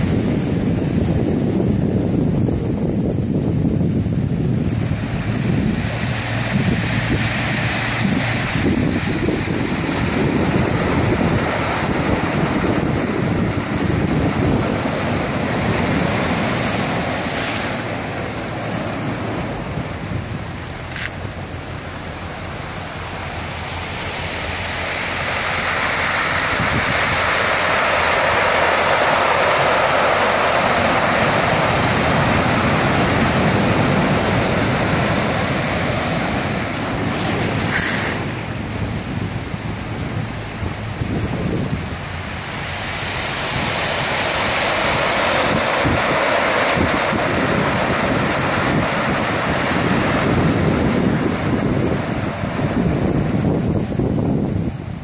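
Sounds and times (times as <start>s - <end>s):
sea surf breaking on beach: 0.0s - 55.0s.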